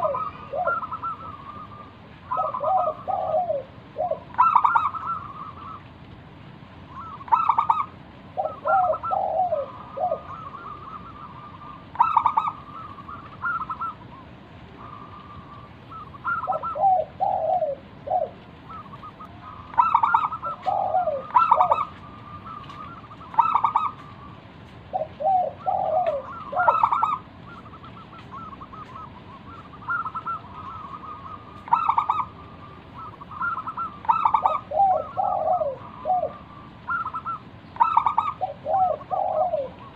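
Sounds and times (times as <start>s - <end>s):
dove cooing: 0.0s - 5.9s, 6.9s - 39.9s.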